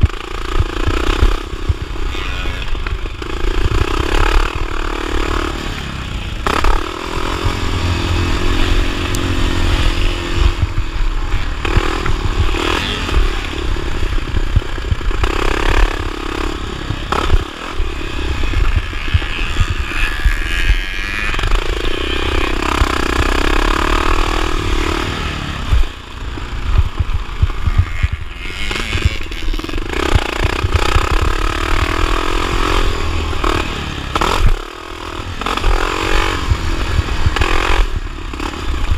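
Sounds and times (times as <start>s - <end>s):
bike rattling and scraping: 0.0s - 38.9s
motorcycle engine revving: 0.0s - 38.9s.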